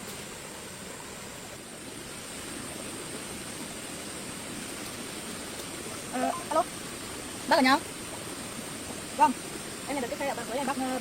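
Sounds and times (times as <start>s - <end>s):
rushing outdoor noise: 0.0s - 11.0s.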